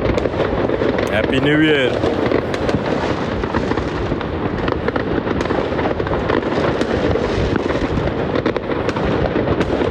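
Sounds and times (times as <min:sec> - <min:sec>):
fireworks crackling and banging: 0:00.0 - 0:09.9.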